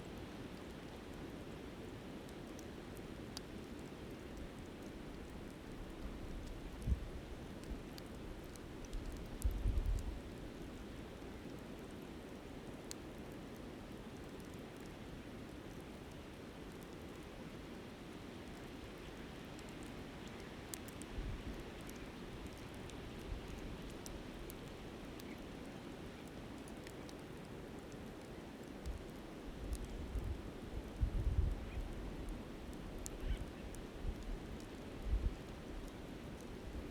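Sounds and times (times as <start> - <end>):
campfire crackling: 0.1 - 36.9.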